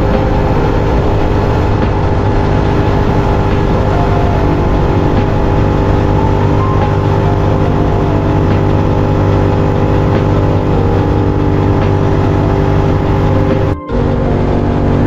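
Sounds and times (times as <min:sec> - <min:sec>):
motorcycle engine cruising: 0:00.0 - 0:15.0
wind rush: 0:00.0 - 0:15.0.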